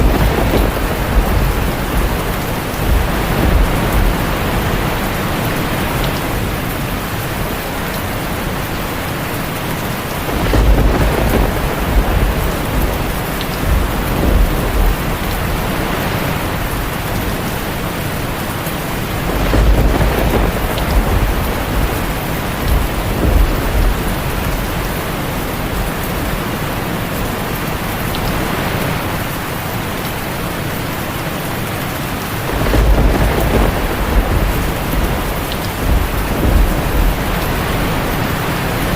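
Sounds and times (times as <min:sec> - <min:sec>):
thunder rumbling: 0:00.0 - 0:29.4, 0:32.2 - 0:38.9
rain drumming on a tin roof: 0:00.0 - 0:38.9.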